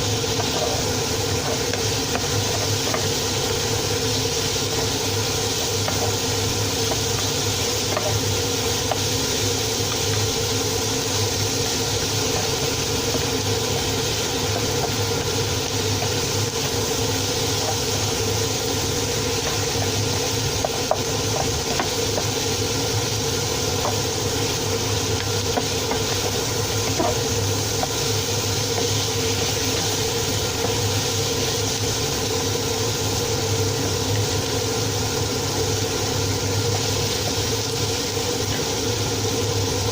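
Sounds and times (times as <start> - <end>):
stew hissing: 0.0 - 33.6.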